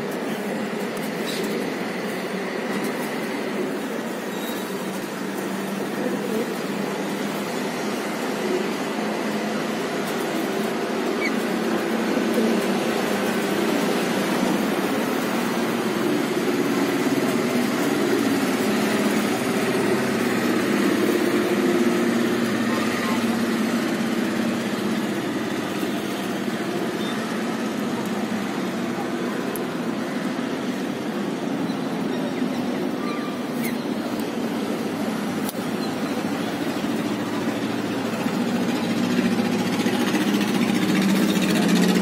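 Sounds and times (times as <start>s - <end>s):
distant traffic hum: 0.0s - 42.0s
faint indistinct voices: 2.7s - 42.0s.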